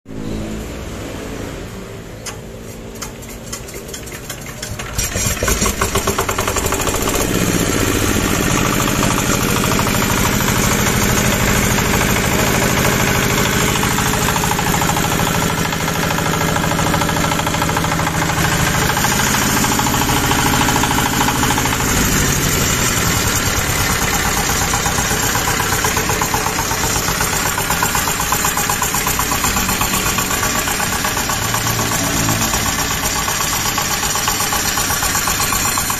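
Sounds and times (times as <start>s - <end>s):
diesel engine hand-cranked and running: 2.2s - 35.9s.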